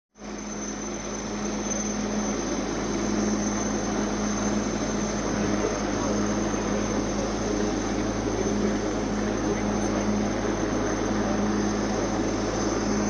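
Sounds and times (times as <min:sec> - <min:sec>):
aircraft engine drone overhead: 0:00.2 - 0:13.0.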